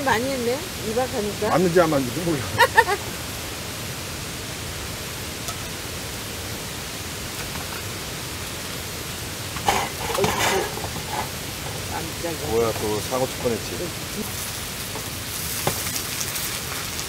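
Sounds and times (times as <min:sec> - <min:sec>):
food frying in a pan: 0:00.0 - 0:17.0.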